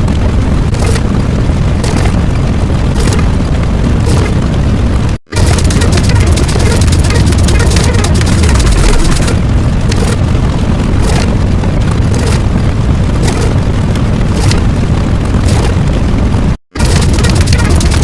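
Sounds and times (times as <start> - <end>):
explosion-like booming rumble: 0.0 - 18.0
sharp cracks: 0.0 - 18.0.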